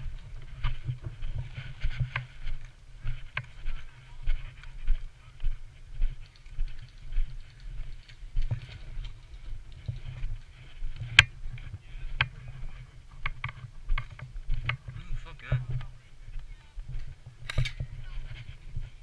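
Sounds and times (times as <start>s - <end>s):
footsteps: 0.0s - 19.0s.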